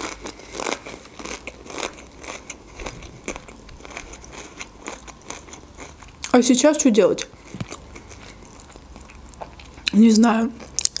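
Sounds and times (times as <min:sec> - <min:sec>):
crunching chewing of chip: 0:00.0 - 0:06.4, 0:07.2 - 0:11.0.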